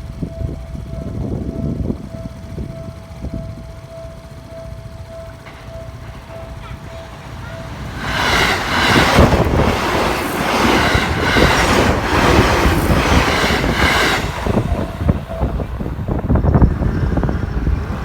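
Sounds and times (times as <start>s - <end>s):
train wheels clattering on rails: 0.0s - 18.0s.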